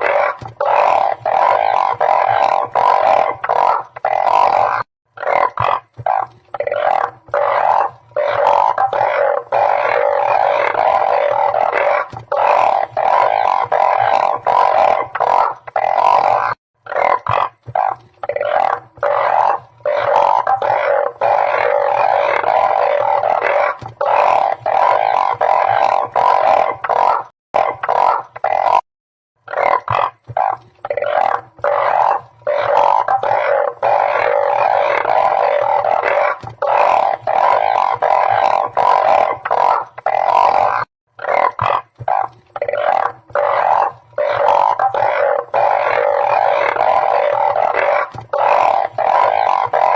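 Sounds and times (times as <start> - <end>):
chorus of frogs calling: 0.0 - 49.9.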